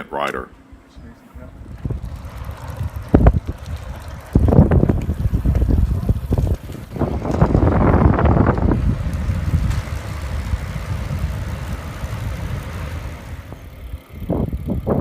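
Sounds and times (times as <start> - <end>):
wind rumbling on microphone: 0.9 - 15.0.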